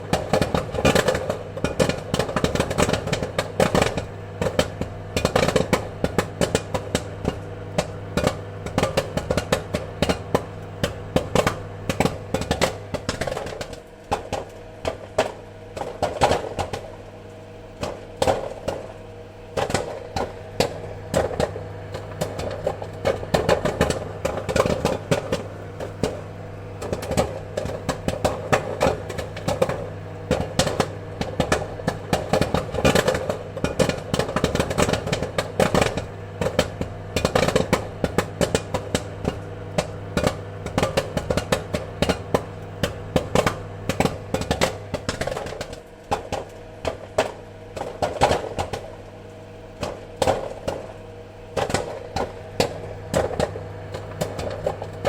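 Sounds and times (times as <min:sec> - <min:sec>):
popcorn kernels popping: 0:00.0 - 0:55.0
steady low hum: 0:00.0 - 0:55.0.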